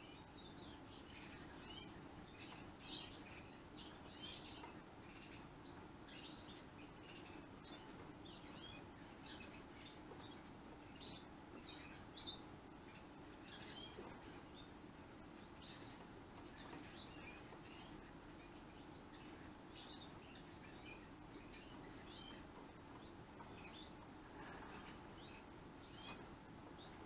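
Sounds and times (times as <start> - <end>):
canary chirping: 0.0 - 27.0.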